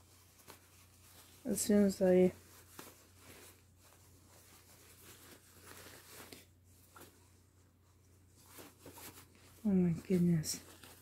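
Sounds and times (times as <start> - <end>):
fabric rustling: 0.0 - 11.0.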